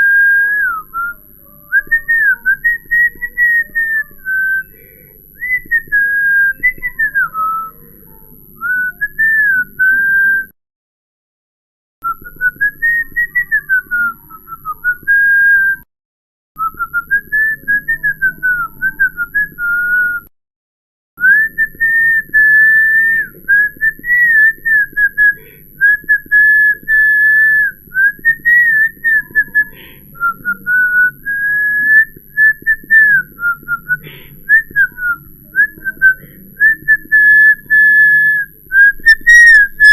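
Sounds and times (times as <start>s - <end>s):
person whistling: 0.0s - 1.2s, 1.8s - 7.8s, 8.6s - 10.6s, 12.0s - 15.9s, 16.6s - 20.3s, 21.2s - 39.9s.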